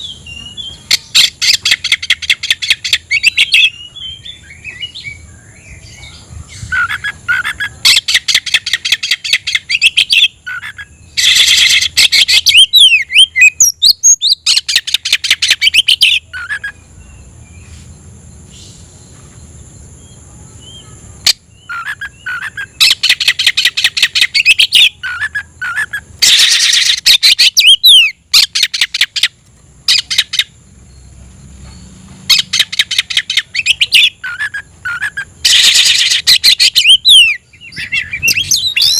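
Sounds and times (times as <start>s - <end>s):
bird singing harsh repeated notes: 0.0s - 38.9s.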